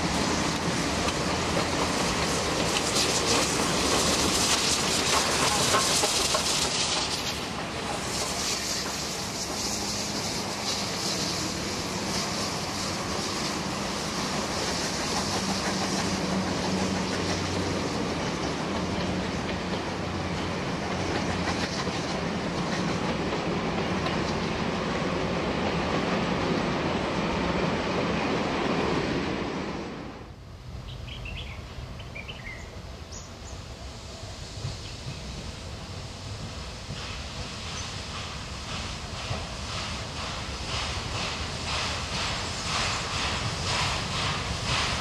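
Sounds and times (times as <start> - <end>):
train carriages rolling on rails: 0.0 - 29.4, 33.5 - 45.0.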